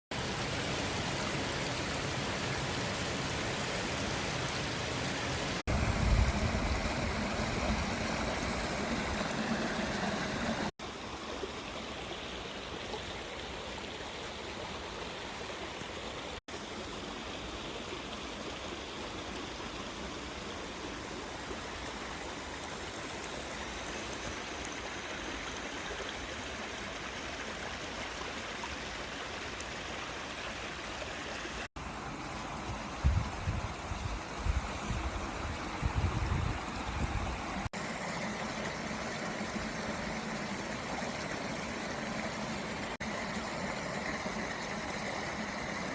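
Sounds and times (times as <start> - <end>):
small waterfall rushing: 0.1 - 45.9.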